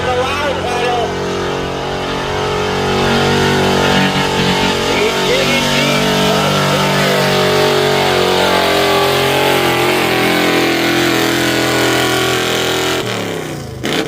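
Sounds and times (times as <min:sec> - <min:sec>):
truck engine at full throttle: 0:00.0 - 0:14.0.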